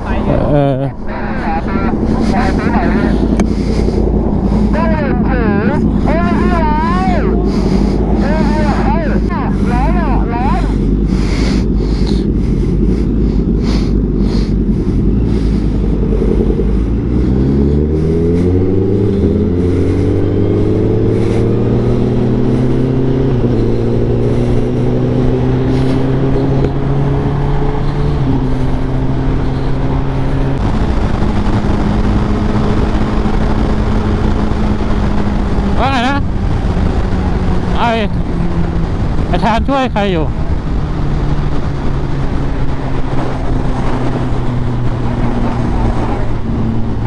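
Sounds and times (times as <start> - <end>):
motorcycle engine accelerating: 0.0 - 47.0
wind rush: 0.0 - 47.0.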